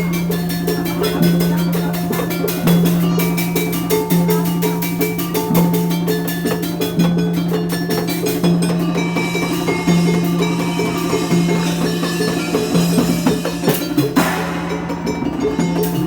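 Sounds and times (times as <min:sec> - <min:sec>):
fast percussion strokes: 0:00.0 - 0:16.0
higher melodic notes: 0:00.0 - 0:16.0.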